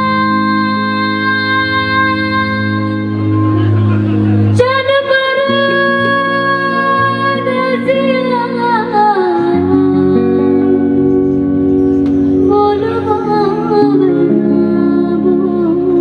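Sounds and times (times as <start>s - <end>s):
woman singing into microphone: 0.0s - 3.4s, 4.5s - 11.2s, 12.3s - 16.0s
guitar sustained chords: 0.0s - 16.0s.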